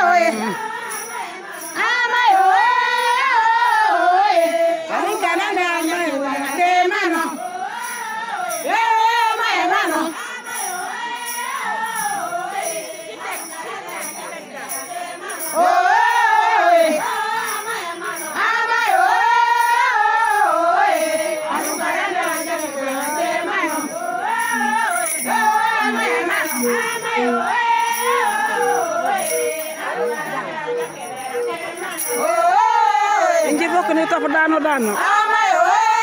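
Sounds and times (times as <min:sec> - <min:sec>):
rhythmic metallic jingling: 0:00.0 - 0:36.0
women singing together: 0:00.0 - 0:36.0.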